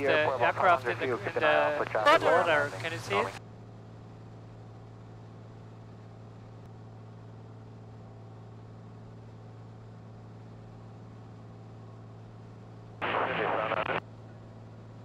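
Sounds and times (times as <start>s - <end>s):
airplane engine and propeller drone: 0.0s - 15.0s.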